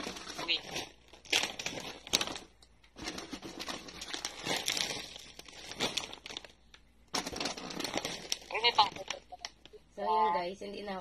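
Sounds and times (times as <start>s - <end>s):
plastic snack packets crinkling: 0.0s - 9.8s.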